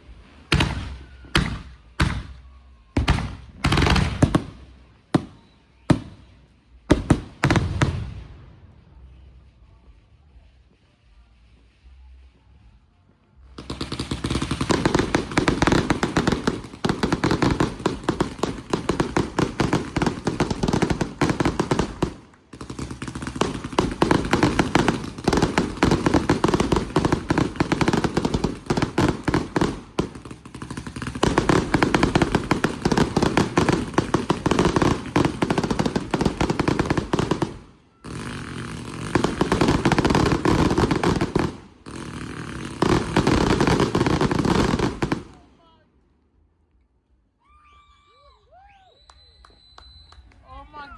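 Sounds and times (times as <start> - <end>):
fireworks firing rapid volleys: 0.0 - 12.4, 13.4 - 45.8.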